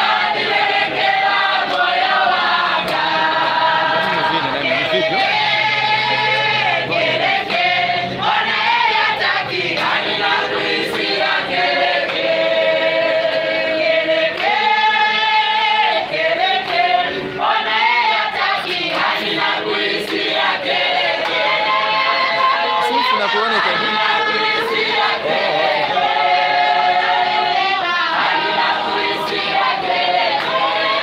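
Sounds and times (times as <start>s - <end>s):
congregation singing: 0.0s - 31.0s.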